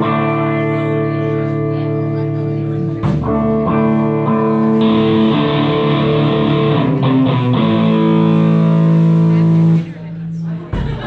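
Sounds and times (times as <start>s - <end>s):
electric guitar chords: 0.0s - 10.3s.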